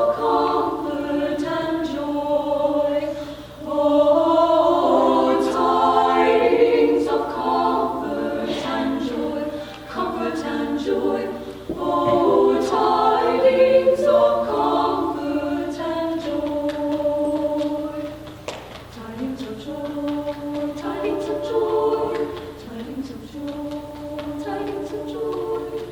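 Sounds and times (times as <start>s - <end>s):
choir singing in harmony: 0.0s - 25.9s.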